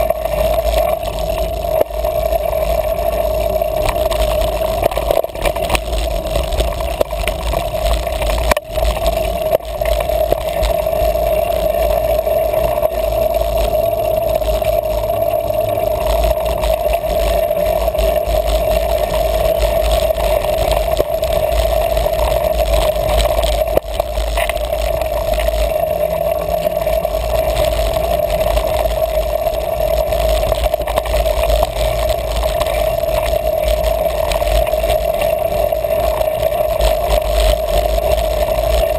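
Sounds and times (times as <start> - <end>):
constant mid-pitched hum: 0.0 - 38.9
trail vibration rumble: 0.0 - 38.9.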